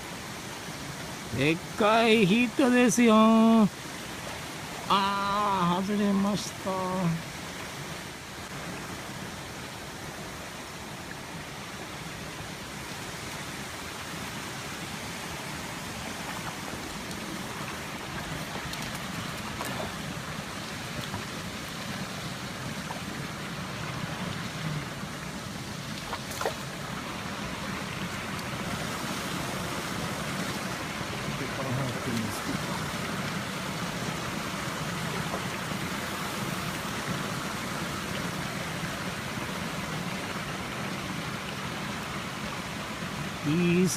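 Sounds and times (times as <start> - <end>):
stream flowing over rocks: 0.0 - 43.9.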